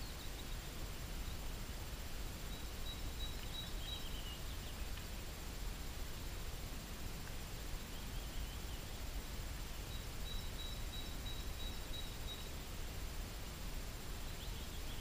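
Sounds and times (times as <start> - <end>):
faint bird chirps: 0.0 - 6.6, 7.2 - 15.0.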